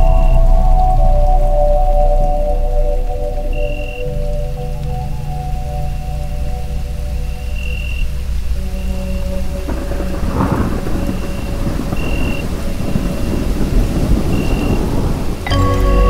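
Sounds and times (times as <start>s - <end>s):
soft ambient music pad: 0.0s - 14.7s, 15.4s - 16.0s
rain: 0.0s - 16.0s
thunder rumbling: 0.0s - 16.0s.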